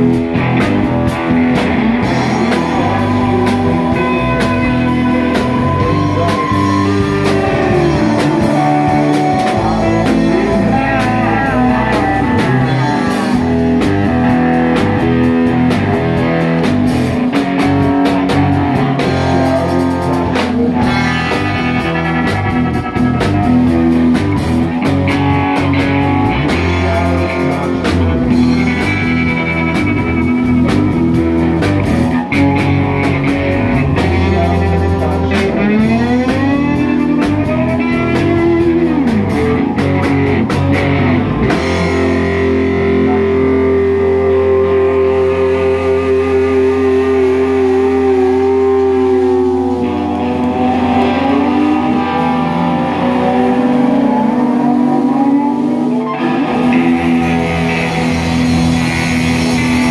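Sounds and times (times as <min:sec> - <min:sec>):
drum kit: 0:00.0 - 0:59.9
electric guitars: 0:00.0 - 0:59.9
lead guitar bending notes: 0:00.0 - 0:59.9.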